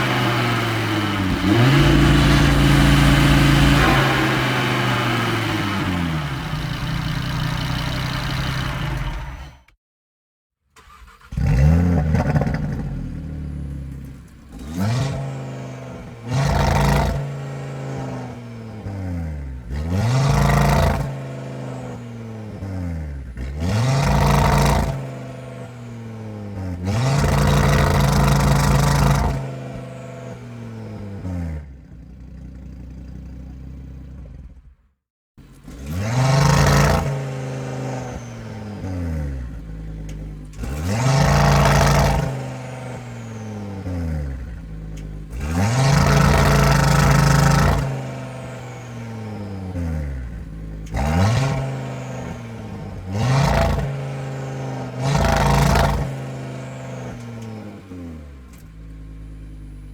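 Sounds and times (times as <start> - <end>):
car engine revving: 0.0 - 9.6, 10.8 - 34.7, 35.4 - 59.9.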